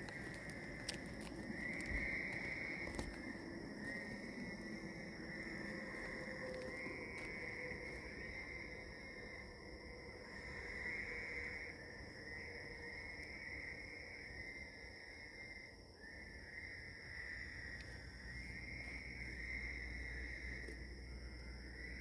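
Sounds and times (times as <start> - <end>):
crickets and insects trilling: 0.0 - 22.0
high-pitched insect whine: 0.0 - 22.0.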